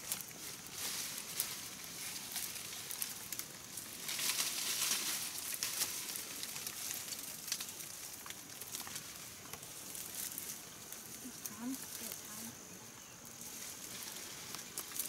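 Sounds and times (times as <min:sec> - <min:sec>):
stems snapping: 0:00.0 - 0:12.4, 0:13.8 - 0:15.0
vines and undergrowth rustling: 0:00.0 - 0:15.0.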